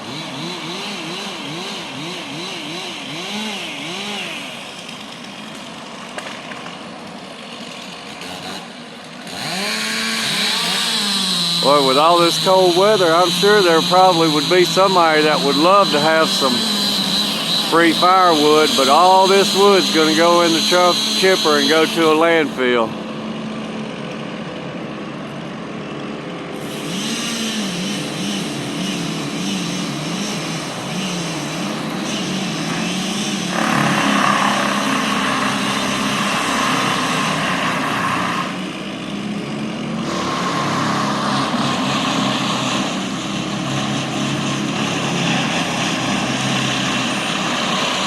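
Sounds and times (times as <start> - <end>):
harsh loud machine noise: 0.0 - 48.0
machinery engine working under load: 0.0 - 48.0.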